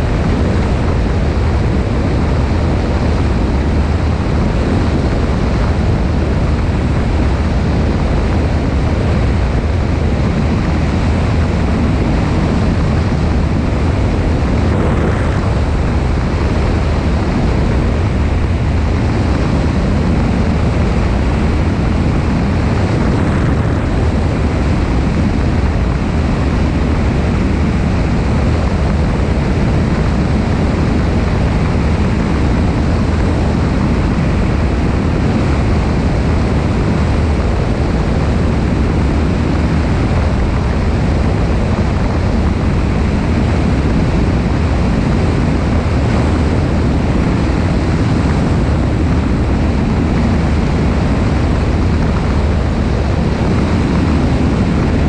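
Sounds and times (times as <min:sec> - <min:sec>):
airplane engine and propeller drone: 0:00.0 - 0:55.0
wind rushing over microphone: 0:00.0 - 0:55.0.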